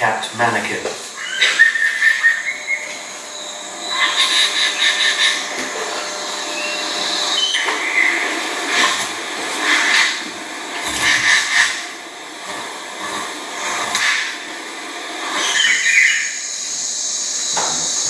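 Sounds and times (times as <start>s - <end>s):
birds chirping: 0.0s - 12.4s, 15.2s - 18.0s
steady outdoor hiss: 0.0s - 18.0s.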